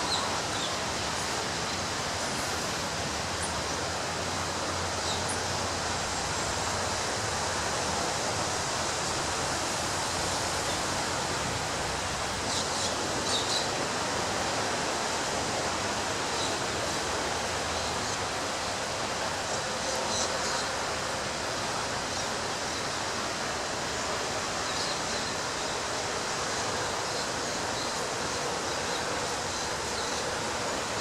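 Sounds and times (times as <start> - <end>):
ocean surf washing onto beach: 0.0 - 31.0.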